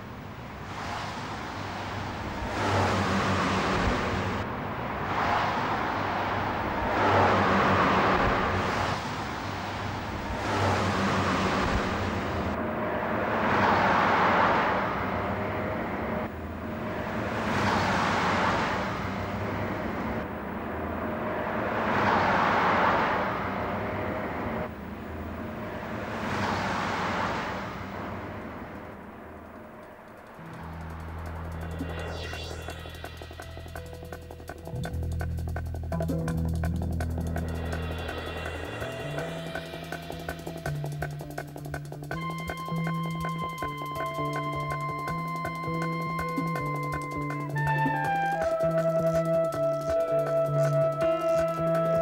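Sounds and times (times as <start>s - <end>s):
cars passing: 0.0s - 52.0s
low engine hum: 0.0s - 52.0s.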